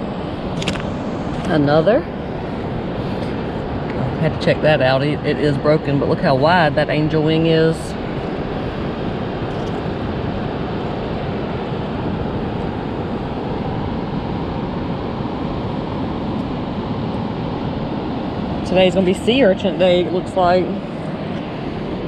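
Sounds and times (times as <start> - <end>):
surf hissing: 0.0 - 22.0
wind noise on microphone: 0.0 - 22.0.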